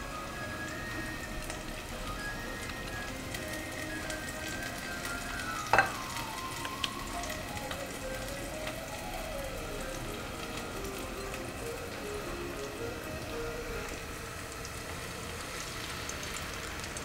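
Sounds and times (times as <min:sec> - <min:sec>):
faint background music: 0:00.0 - 0:17.0
onions sizzling in oil: 0:00.0 - 0:17.0.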